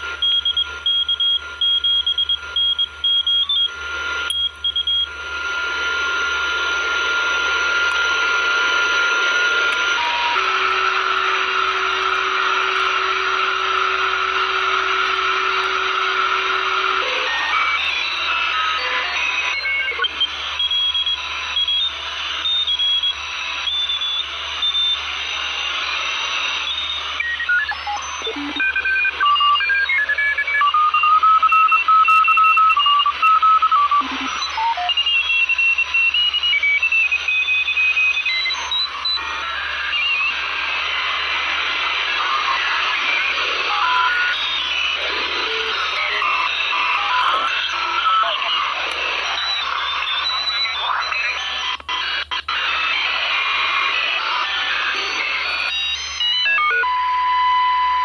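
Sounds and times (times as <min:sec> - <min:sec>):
radio static hiss: 0:00.0 - 0:58.0
radio whistling tones: 0:00.0 - 0:58.0.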